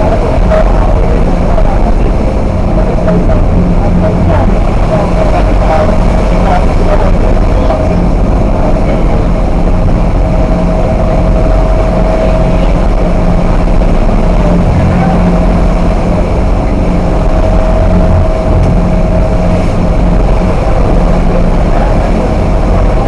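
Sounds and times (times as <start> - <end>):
ship engines droning: 0.0 - 23.0
thin engine whine: 0.0 - 23.0.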